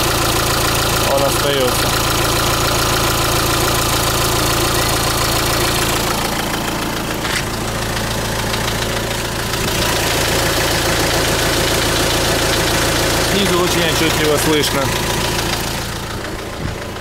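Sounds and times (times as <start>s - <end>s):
diesel engine idling with knock: 0.0s - 17.0s.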